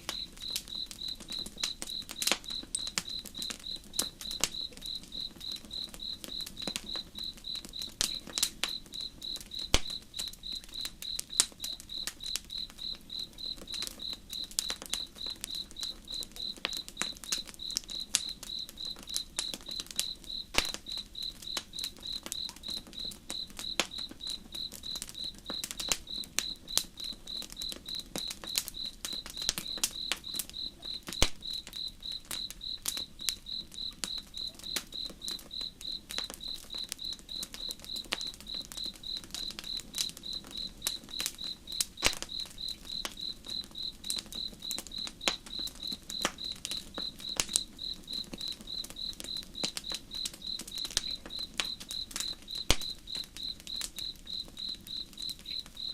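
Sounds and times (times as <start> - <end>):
campfire crackling: 0.0 - 55.9
crickets chirping: 0.0 - 55.9.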